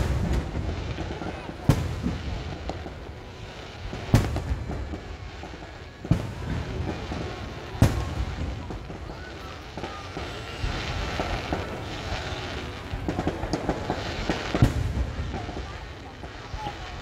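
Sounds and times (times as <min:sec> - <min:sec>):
continuous firework rumble: 0:00.0 - 0:17.0
firework bangs with echo: 0:00.0 - 0:17.0.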